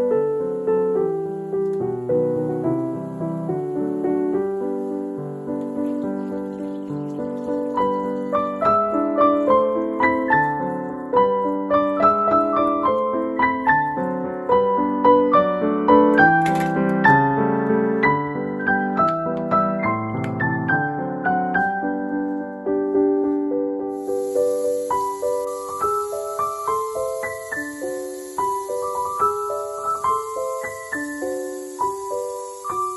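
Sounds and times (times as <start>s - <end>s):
piano music: 0.0s - 32.9s.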